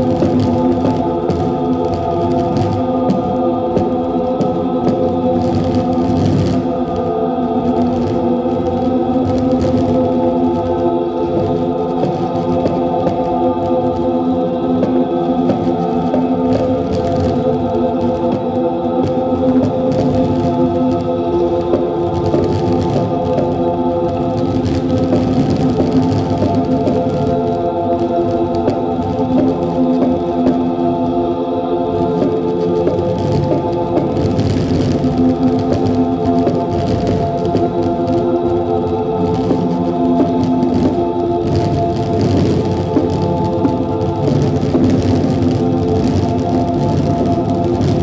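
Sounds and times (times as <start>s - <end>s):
loud droning choir-like chord: 0.0s - 48.0s.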